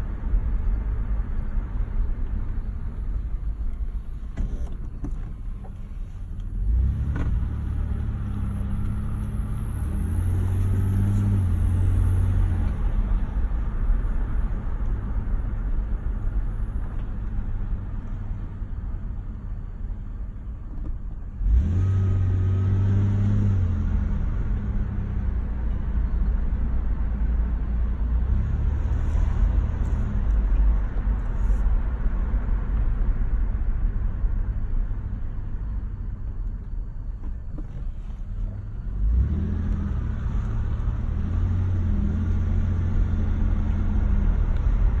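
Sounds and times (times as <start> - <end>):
car low rumble: 0.0 - 45.0.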